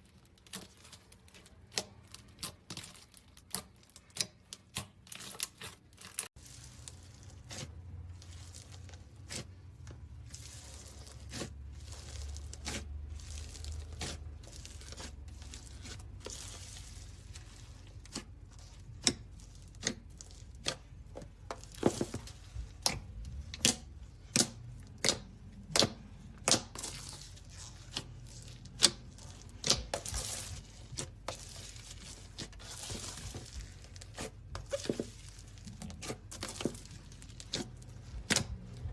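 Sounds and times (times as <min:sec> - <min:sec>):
slime squeezed and stretched: 0:00.2 - 0:38.9.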